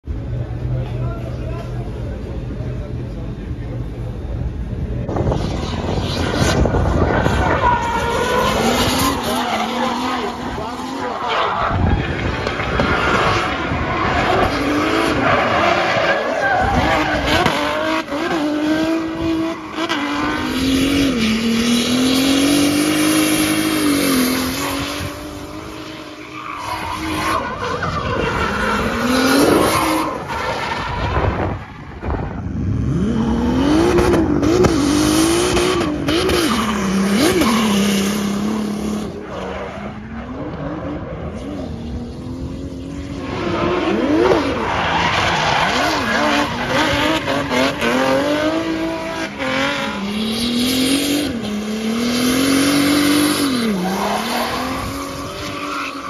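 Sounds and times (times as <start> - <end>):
car engine revving: 0.3 - 56.0.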